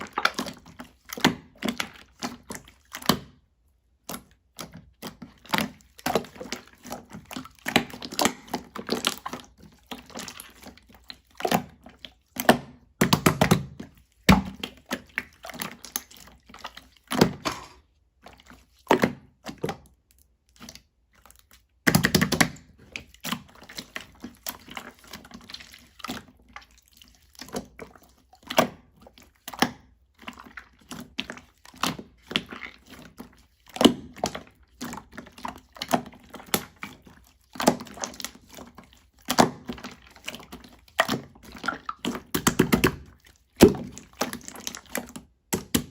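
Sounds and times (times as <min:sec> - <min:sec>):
slime squishing by hand: 0:00.0 - 0:45.9.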